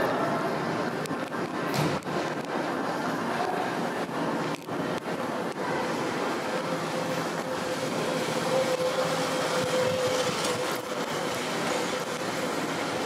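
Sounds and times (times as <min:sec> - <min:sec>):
city street rumble: 0:00.0 - 0:13.0.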